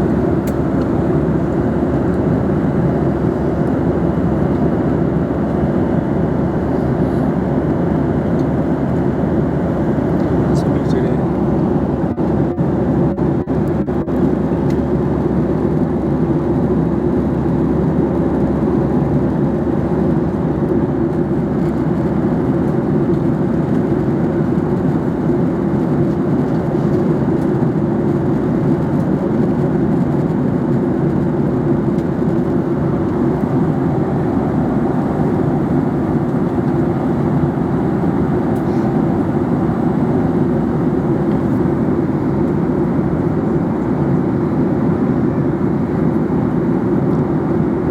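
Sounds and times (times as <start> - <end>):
jet engine and airflow rush: 0.0 - 47.9.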